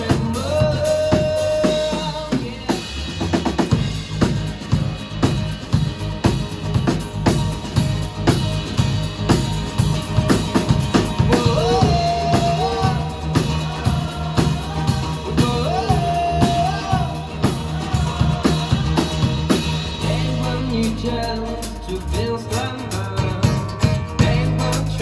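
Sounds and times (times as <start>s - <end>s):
bass guitar: 0.0s - 25.0s
drum kit beat: 0.0s - 25.0s.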